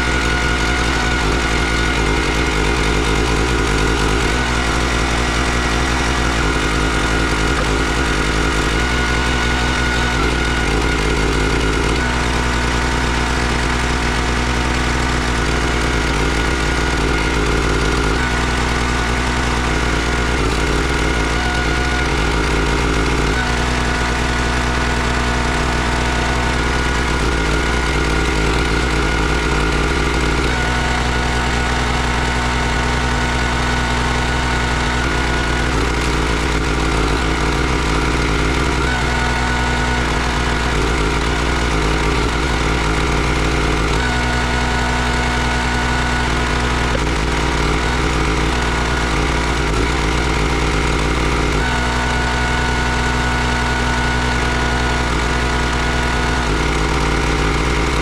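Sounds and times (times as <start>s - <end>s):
small gas engine running: 0.0s - 58.0s.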